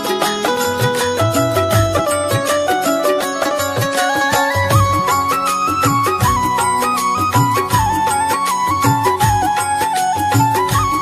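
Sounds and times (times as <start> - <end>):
instrumental melody of held notes: 0.0 - 11.0
regular drum beat: 0.0 - 11.0.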